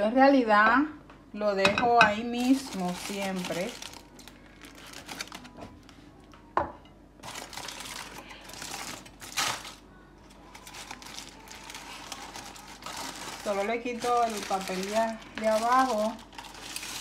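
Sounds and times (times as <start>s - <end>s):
aluminium foil crinkling: 2.2s - 6.4s, 7.2s - 17.0s.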